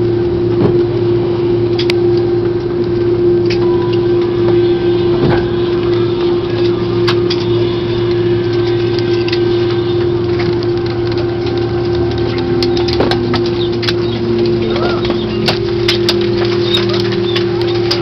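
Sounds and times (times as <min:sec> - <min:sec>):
jet engine and cabin hum: 0:00.0 - 0:18.0.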